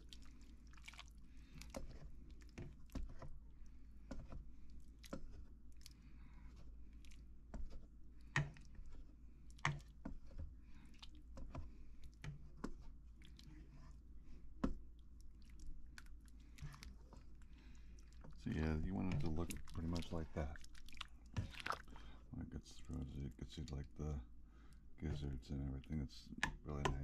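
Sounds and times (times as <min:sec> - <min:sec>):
wet squishing of meat stirred: 0:00.0 - 0:22.3.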